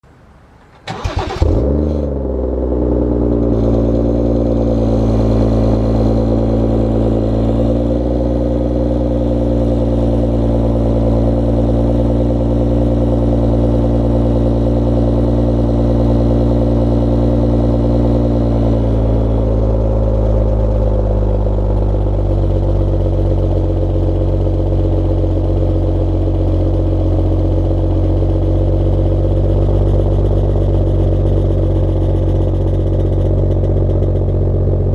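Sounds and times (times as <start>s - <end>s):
car engine starting and idling: 0.1s - 34.9s.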